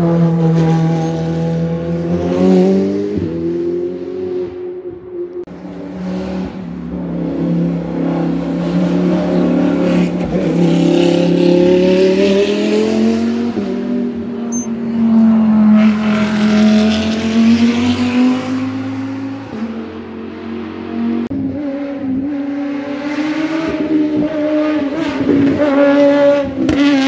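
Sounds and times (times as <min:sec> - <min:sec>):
racing car engine at full throttle: 0:00.0 - 0:27.0.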